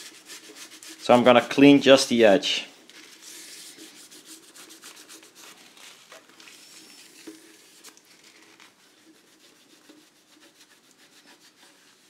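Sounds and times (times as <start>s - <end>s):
wipe rubbing on frame: 0.0s - 2.0s, 2.9s - 12.0s.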